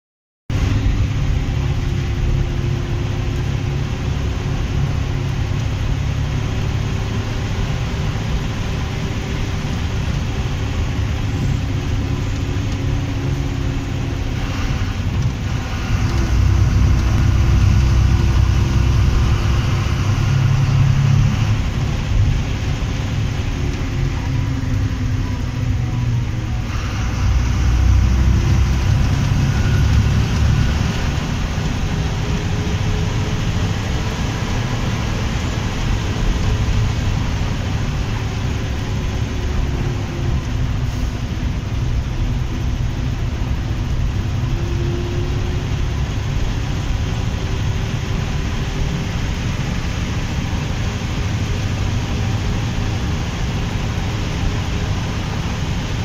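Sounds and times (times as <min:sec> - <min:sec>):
bus diesel engine running: 0:00.5 - 0:56.0
road and tyre noise: 0:00.5 - 0:56.0.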